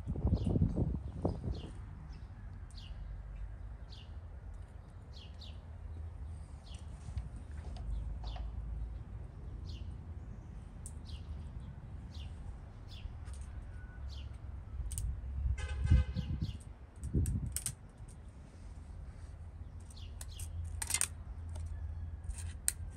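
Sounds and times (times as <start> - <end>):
low outdoor rumble: 0.0 - 22.9
small birds chirping: 0.1 - 15.1, 16.2 - 22.0.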